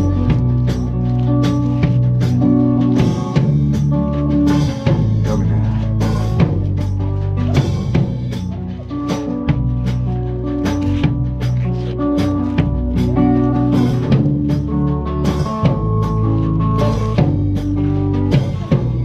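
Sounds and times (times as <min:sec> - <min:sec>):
acoustic guitar: 0:00.0 - 0:19.0
drum kit beat: 0:00.0 - 0:19.0
upright bass: 0:00.0 - 0:19.0.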